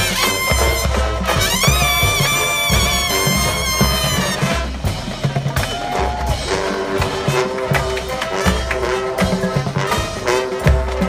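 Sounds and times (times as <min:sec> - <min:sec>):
sustained brass and mallet tones: 0:00.0 - 0:05.4, 0:06.4 - 0:11.0.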